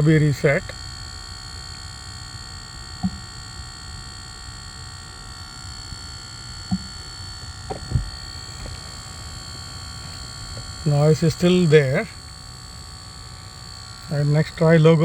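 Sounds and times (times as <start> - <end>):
electronic buzzing whine: 0.0 - 15.0.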